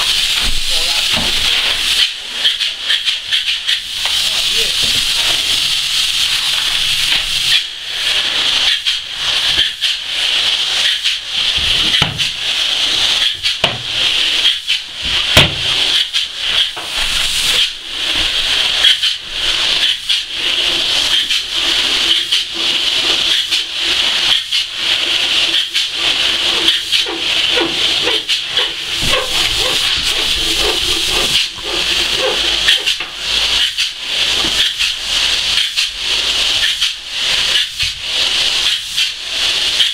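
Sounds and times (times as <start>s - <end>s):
spray foam gun hissing: 0.0s - 39.9s.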